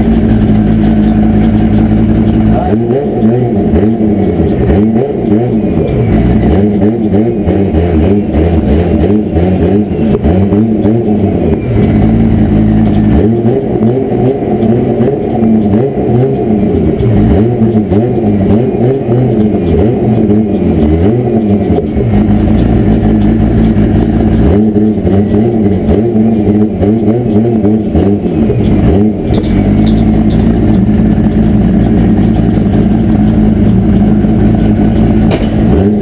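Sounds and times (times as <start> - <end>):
turbocharged engine revving: 0.0 - 36.0.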